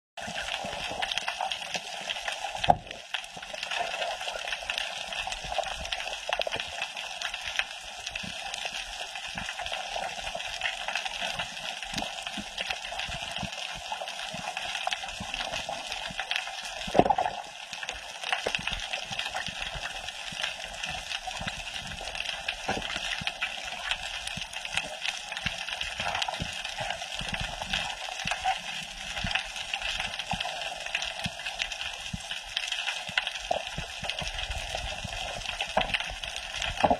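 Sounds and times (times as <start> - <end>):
small underwater clicks: 0.2 - 36.9.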